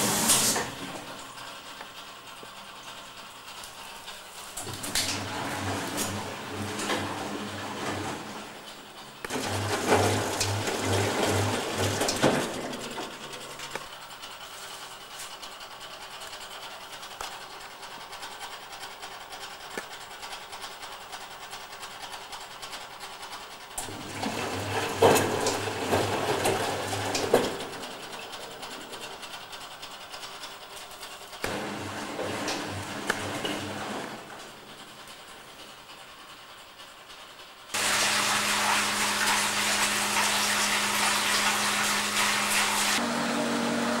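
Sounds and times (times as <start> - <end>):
washing machine running: 0.0 - 44.0.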